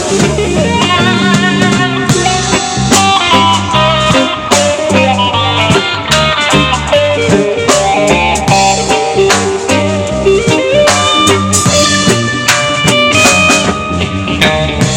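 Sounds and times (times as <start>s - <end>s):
bass: 0.0s - 14.9s
drum kit steady beat: 0.0s - 14.9s
melodic guitar line: 0.0s - 14.9s.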